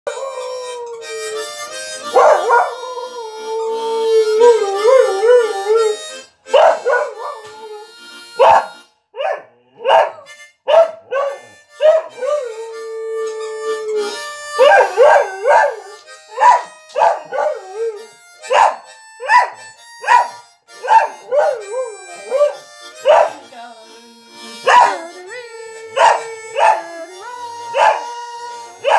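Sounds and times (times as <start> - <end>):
dog howling: 0.1 - 23.3, 24.7 - 28.9.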